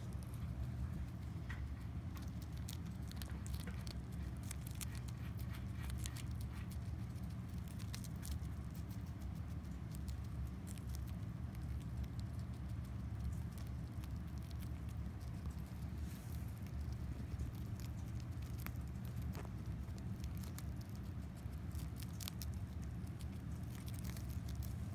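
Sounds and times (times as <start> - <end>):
rat nibbling lettuce: 0.0 - 24.9
steady low hum: 0.0 - 24.9.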